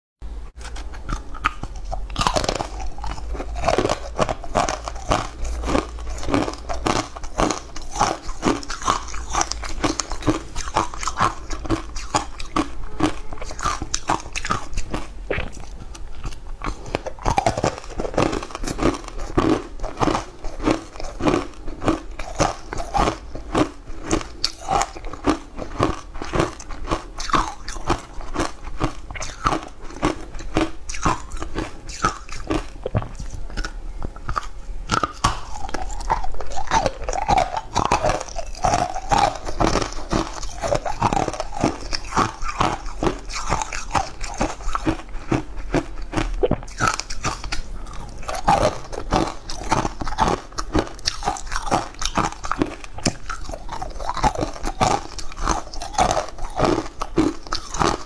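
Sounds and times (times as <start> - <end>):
person chewing crunchy food: 0.6 - 58.0.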